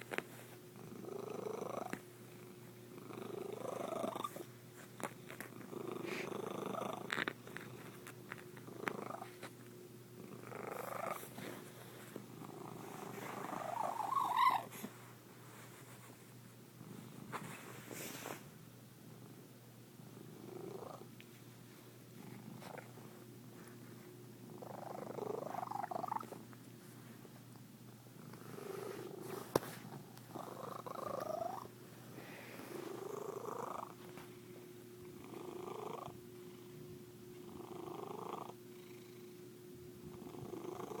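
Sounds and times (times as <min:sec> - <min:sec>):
cat purring: 0:00.0 - 0:18.5, 0:19.1 - 0:21.4, 0:22.0 - 0:27.2, 0:27.9 - 0:41.0.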